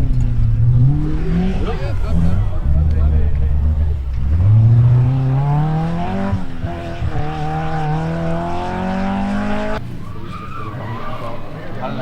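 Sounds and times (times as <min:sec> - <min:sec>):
rally car engine accelerating: 0:00.0 - 0:09.8.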